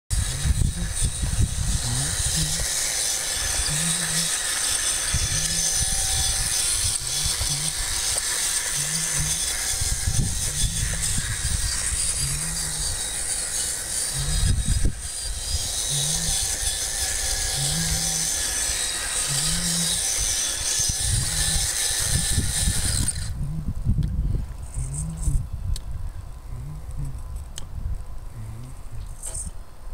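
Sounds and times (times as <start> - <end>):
wind rumble on microphone: 0.1 - 2.8, 4.9 - 29.9.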